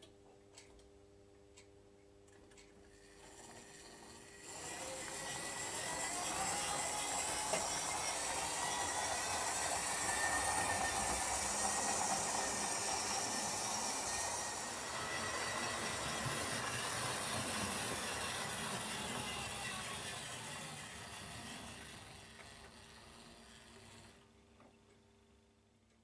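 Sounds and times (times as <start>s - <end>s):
faint motor whine: 2.6s - 25.0s
model train wheels rattling on rails: 3.0s - 24.2s.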